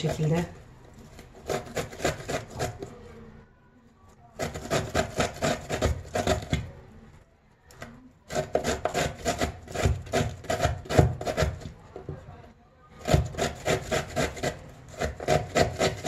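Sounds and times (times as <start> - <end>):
ginger being grated: 0.0 - 3.1, 4.3 - 7.0, 7.8 - 12.0, 12.9 - 16.0.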